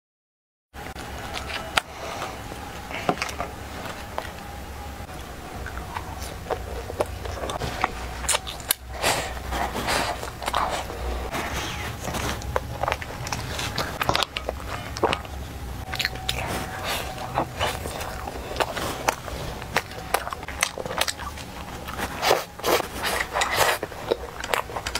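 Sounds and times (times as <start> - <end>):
crunchy bites and chewing: 0.8 - 24.9.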